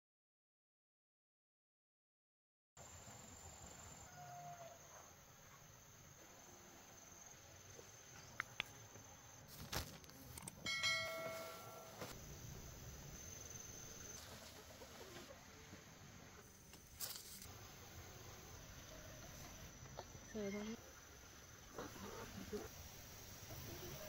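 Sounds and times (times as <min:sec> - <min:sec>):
high insect whine: 0:02.8 - 0:15.2, 0:16.4 - 0:24.0.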